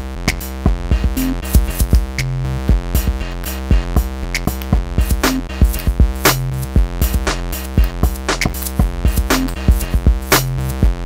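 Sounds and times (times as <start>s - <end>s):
drum machine beat: 0.0s - 11.0s
synth bass line: 0.0s - 11.0s.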